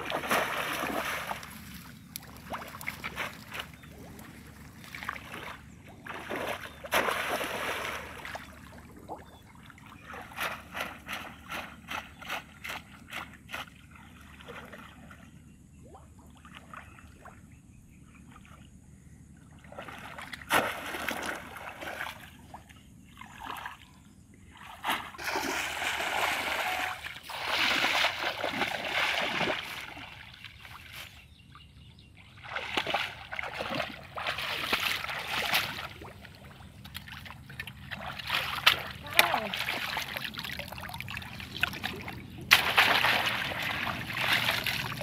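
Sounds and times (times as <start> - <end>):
water splashing: 0.0 - 15.2, 19.6 - 22.5, 24.6 - 31.0, 32.4 - 45.0
wading through water: 0.0 - 45.0.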